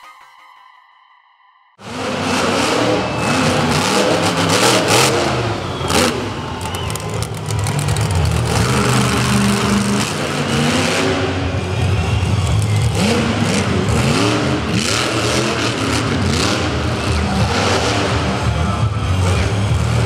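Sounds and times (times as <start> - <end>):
monster truck engine revving: 1.8 - 20.0.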